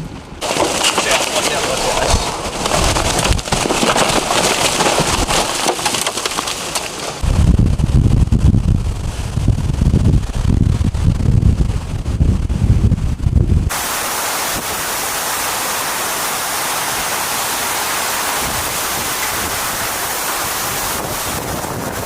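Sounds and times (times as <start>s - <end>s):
wind buffeting microphone: 0.0s - 5.5s, 7.0s - 22.0s
storm wind and driving rain: 0.0s - 22.0s.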